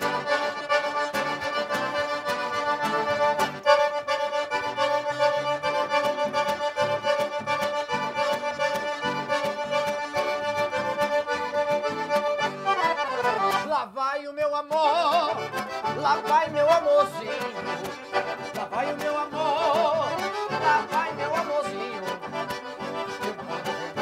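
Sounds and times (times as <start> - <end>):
piano accordions playing dance music: 0.0 - 13.9, 15.2 - 24.0.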